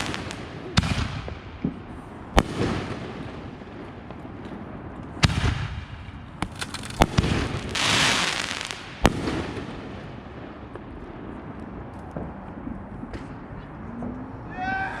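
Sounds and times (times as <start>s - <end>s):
fireworks bangs: 0.0s - 12.4s
hissing crackle of fireworks: 0.0s - 13.6s.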